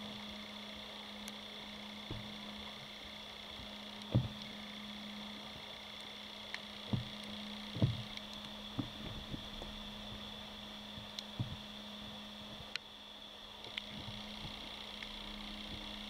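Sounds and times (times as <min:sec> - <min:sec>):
faint high whine: 0:00.0 - 0:16.0
underwater low hum: 0:00.0 - 0:16.0.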